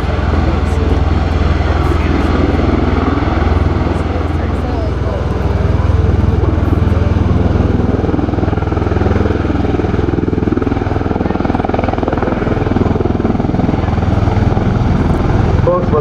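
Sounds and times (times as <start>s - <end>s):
tiltrotor aircraft thrumming: 0.0s - 16.0s.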